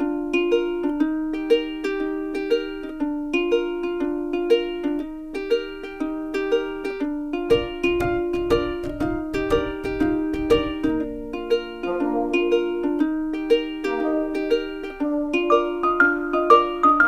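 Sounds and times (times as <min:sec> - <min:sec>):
bouncy ukulele tune: 0:00.0 - 0:17.0.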